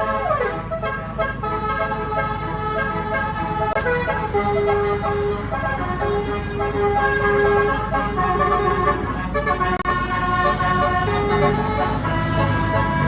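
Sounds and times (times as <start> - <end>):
low engine rumble: 0.0 - 13.0
multi-tone bus horn melody: 0.0 - 13.0.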